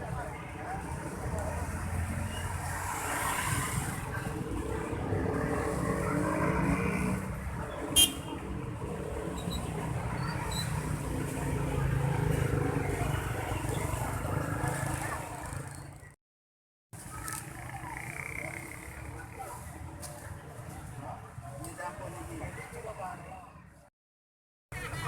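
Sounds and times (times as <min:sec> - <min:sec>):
vehicles passing: 0:00.0 - 0:16.2, 0:17.0 - 0:23.9.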